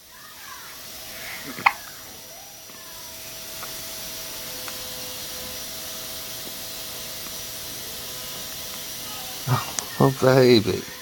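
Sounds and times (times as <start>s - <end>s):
background hiss: 0.0s - 11.0s
faint steady hum: 0.0s - 11.0s.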